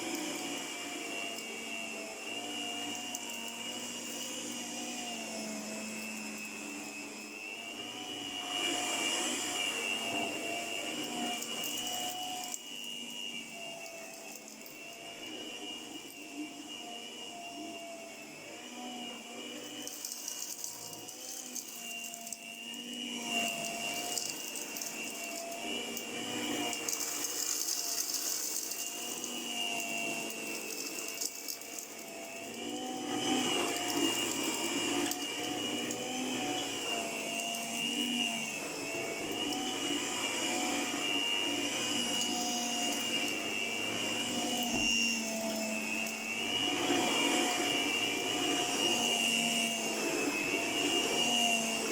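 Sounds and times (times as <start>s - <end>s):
carpet sweeper motor whine: 0.0s - 51.9s.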